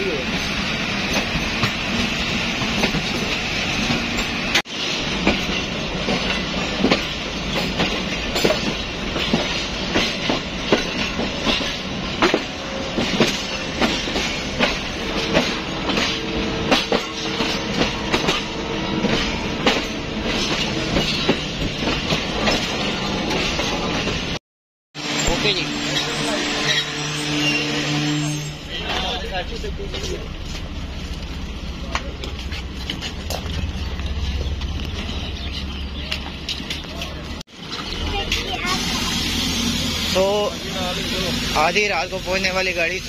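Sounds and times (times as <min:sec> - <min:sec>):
train rumbling on rails: 0:00.0 - 0:24.4, 0:25.0 - 0:43.0
wheels clacking over rail joints: 0:00.0 - 0:24.4, 0:28.8 - 0:39.0.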